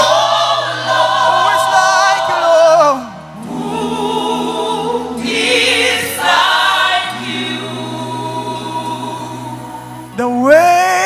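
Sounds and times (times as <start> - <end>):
choir singing held chords: 0.0 - 11.0.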